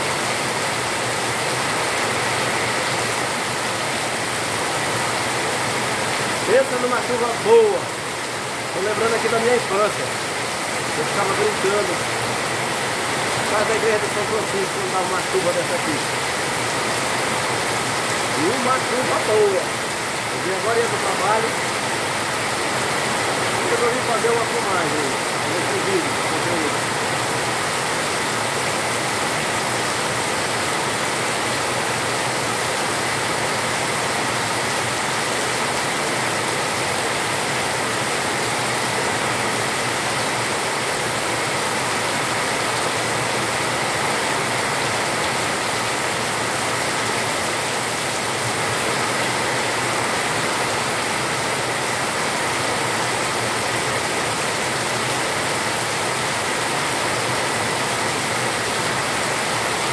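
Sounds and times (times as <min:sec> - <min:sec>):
heavy rain on concrete: 0:00.0 - 0:59.9.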